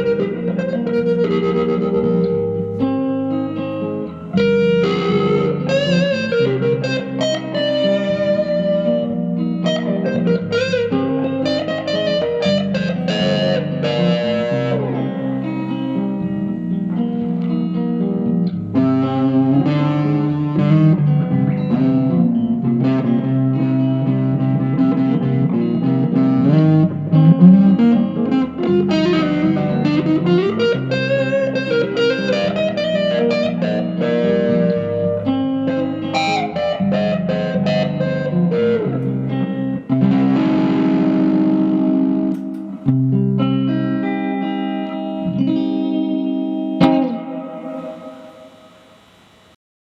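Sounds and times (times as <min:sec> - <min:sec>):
electric guitar playing: 0:00.0 - 0:49.6.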